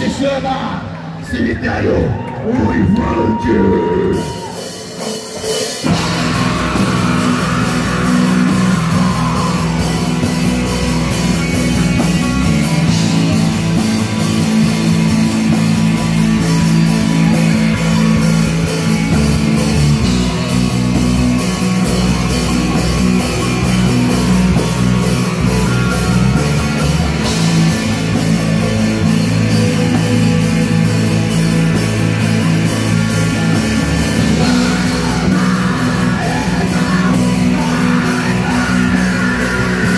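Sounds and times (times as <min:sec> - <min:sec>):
bass guitar: 0:00.0 - 0:39.9
electric guitars: 0:00.0 - 0:39.9
drum kit: 0:03.3 - 0:39.9.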